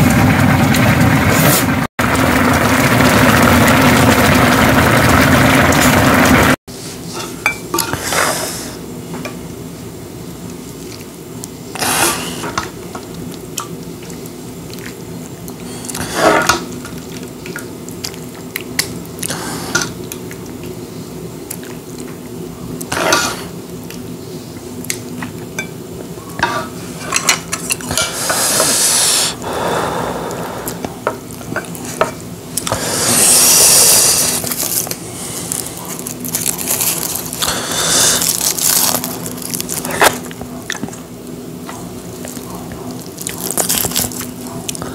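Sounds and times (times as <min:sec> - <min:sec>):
faint steady hum: 0:06.8 - 0:44.9.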